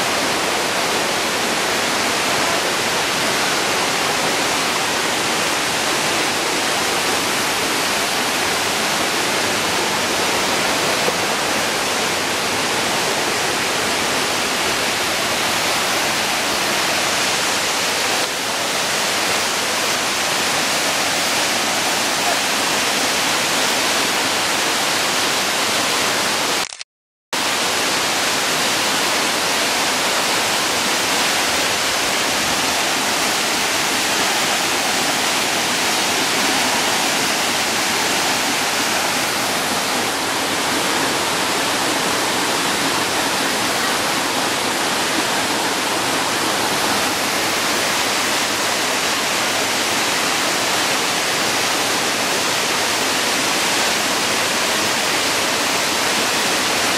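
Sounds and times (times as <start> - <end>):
waterfall rushing over rocks: 0.0 - 26.8, 27.4 - 56.9.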